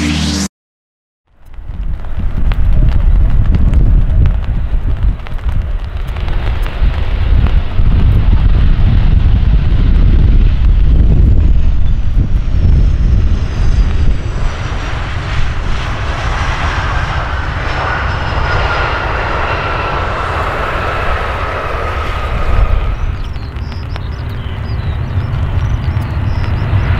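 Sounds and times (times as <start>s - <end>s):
jet engines high whine: 0.0s - 0.5s, 1.4s - 26.9s
airliner landing rumble: 1.3s - 26.9s.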